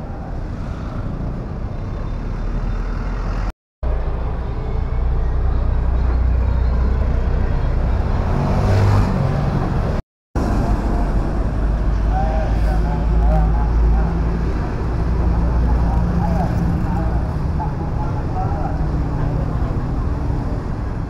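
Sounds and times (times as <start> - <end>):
traffic rumble: 0.0 - 21.0
vehicle passing loudly: 1.8 - 21.0.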